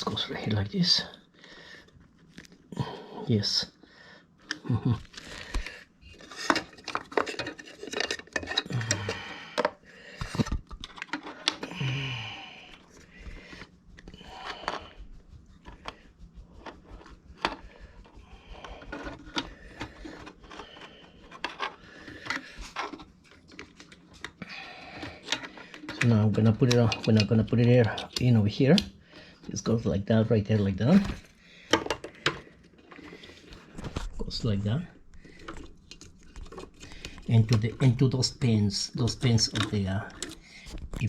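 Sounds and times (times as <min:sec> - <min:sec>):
small hard parts clicking and knocking: 0:04.4 - 0:16.0, 0:16.6 - 0:29.5, 0:30.9 - 0:41.0.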